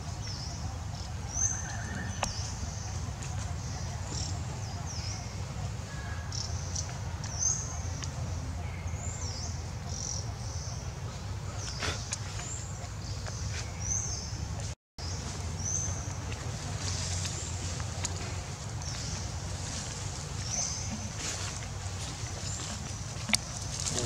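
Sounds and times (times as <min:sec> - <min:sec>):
steady low rumble: 0:02.1 - 0:24.0.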